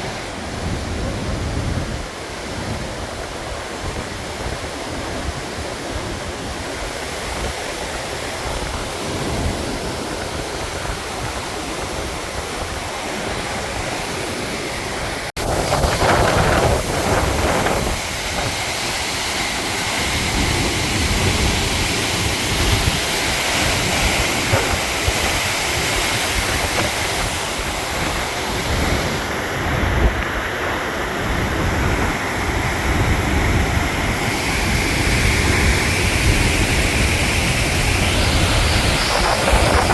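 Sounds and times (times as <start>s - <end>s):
waterfall rushing: 0.0s - 39.9s
wind buffeting microphone: 0.0s - 39.9s.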